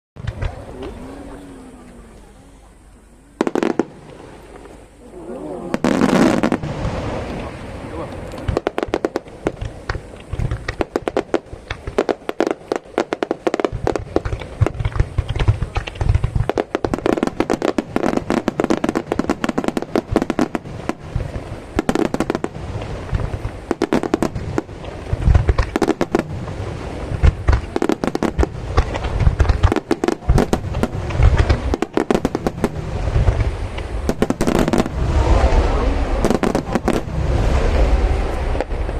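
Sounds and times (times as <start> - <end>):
fireworks crackling: 0.2 - 38.9
deep booms of fireworks shells: 5.7 - 38.9.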